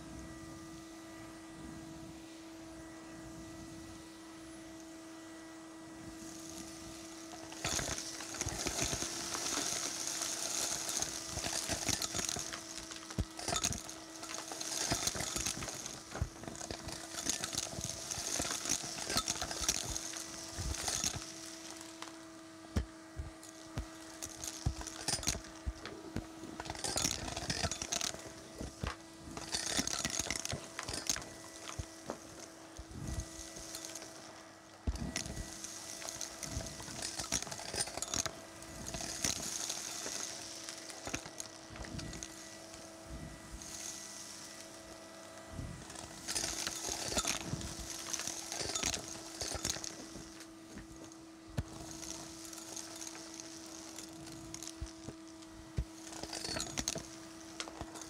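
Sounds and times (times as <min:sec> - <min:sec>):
vacuum cleaner motor hum: 0:00.0 - 0:58.0
debris rattling up vacuum wand: 0:05.9 - 0:58.0.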